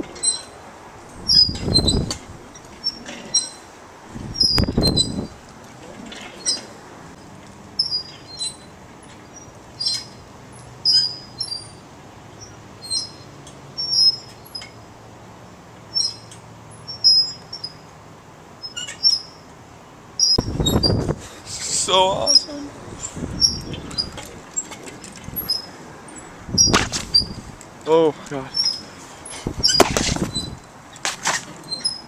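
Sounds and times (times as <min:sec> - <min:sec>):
swing squeaking: 0:00.0 - 0:27.6, 0:28.4 - 0:32.0.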